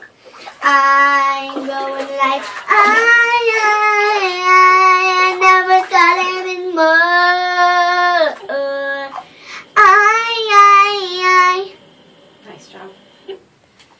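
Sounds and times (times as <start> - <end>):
girl singing: 0.6 - 11.8.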